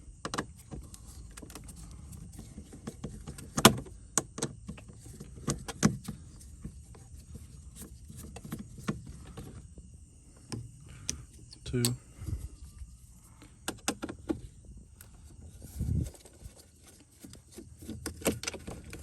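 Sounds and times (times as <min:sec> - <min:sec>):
handling noise on plastic: 0:00.2 - 0:10.6, 0:11.7 - 0:19.0.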